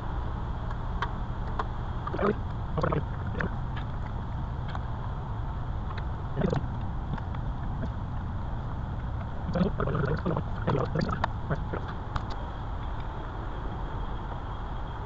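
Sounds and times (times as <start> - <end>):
low workshop rumble: 0.0 - 15.0.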